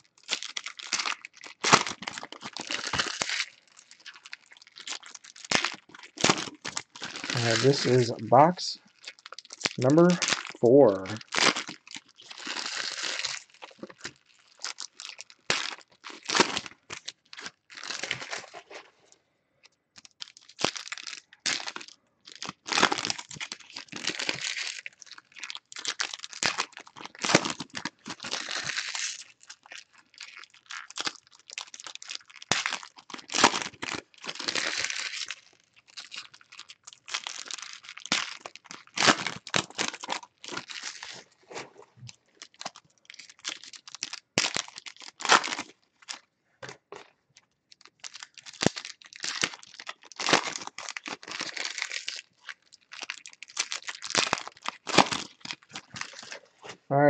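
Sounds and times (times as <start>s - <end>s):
plastic and foil wrappers tearing: 0.0s - 18.9s, 20.0s - 46.2s, 46.9s - 56.5s.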